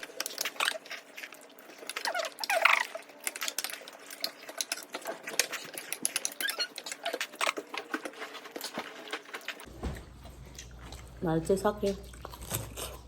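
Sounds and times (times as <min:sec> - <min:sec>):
chewing and mouth smacking: 0:00.0 - 0:13.0.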